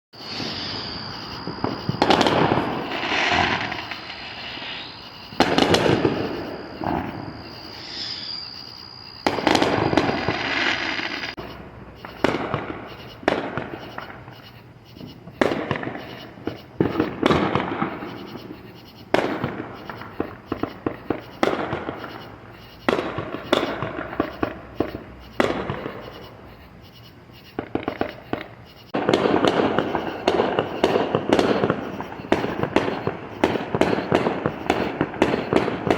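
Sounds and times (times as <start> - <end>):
crackling fireworks volley: 0.2 - 35.9
fireworks bangs: 0.2 - 35.9.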